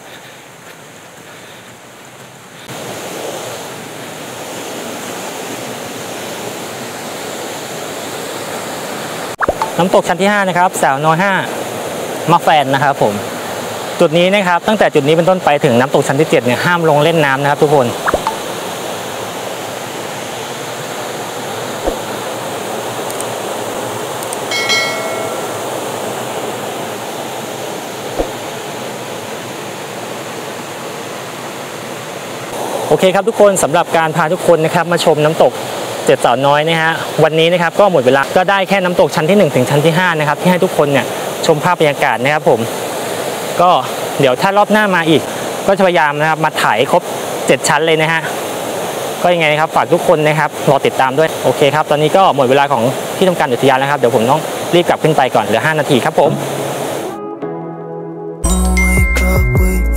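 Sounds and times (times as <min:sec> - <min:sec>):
waterfall rushing: 0:00.0 - 0:57.2.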